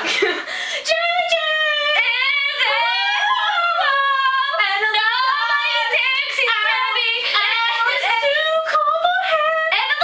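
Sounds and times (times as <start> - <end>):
girls singing high held notes: 0.9 - 10.0.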